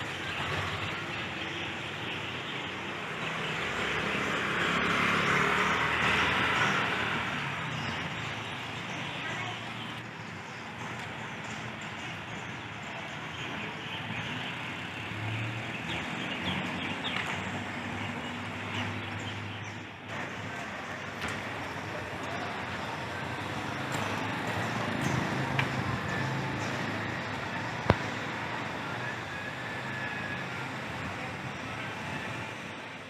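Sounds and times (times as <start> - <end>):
passing vehicles engine hum: 0.0 - 33.0.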